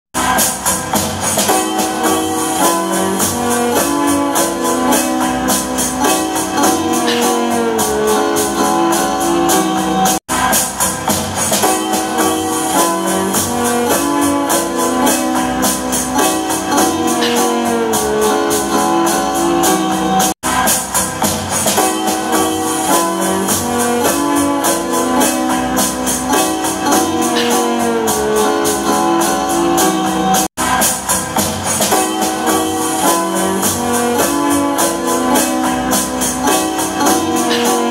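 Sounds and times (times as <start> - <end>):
high percussion beat: 0.2 - 37.9
trumpet melody: 1.7 - 10.2, 12.0 - 20.3, 22.2 - 30.5, 32.0 - 37.9.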